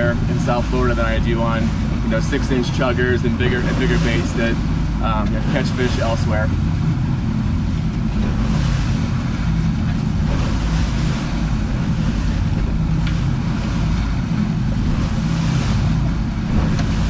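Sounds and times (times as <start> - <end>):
outboard motors droning: 0.0 - 17.0
wind buffeting microphone: 0.0 - 17.0.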